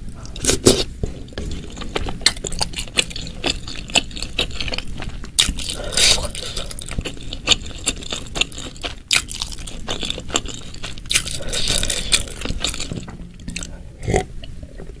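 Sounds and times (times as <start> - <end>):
chewing with wet mouth clicks: 1.4 - 14.6.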